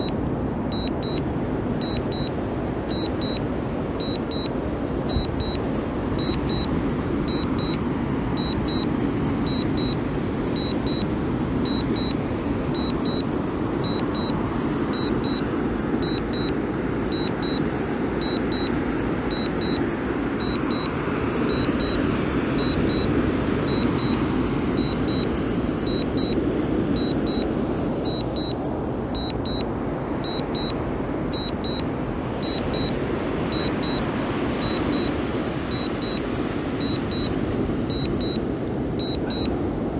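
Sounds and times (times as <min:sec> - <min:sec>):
steady rushing noise: 0:00.0 - 0:39.9
high double beeps: 0:00.7 - 0:01.2, 0:01.8 - 0:03.4, 0:04.0 - 0:04.5, 0:05.1 - 0:05.6, 0:06.2 - 0:07.8, 0:08.4 - 0:10.0, 0:10.6 - 0:26.4, 0:27.0 - 0:39.6.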